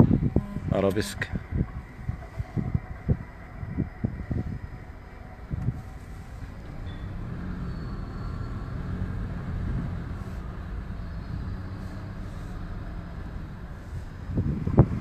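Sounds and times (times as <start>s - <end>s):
car engine hum and road rumble: 0.0s - 15.0s.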